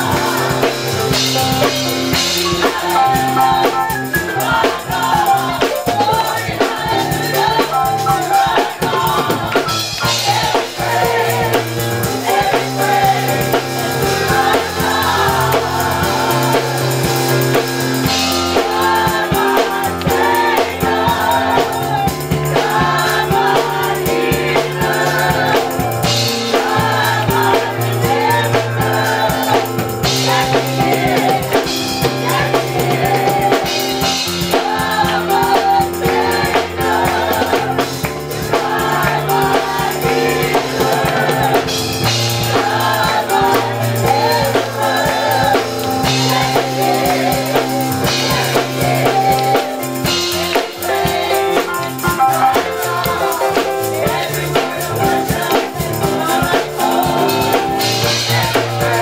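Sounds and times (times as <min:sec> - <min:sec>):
drums: 0:00.0 - 0:59.0
gospel choir singing: 0:00.0 - 0:59.0.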